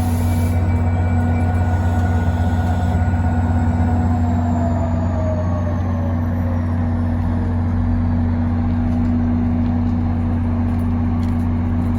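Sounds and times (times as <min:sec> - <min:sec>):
train engine humming: 0:00.0 - 0:11.9.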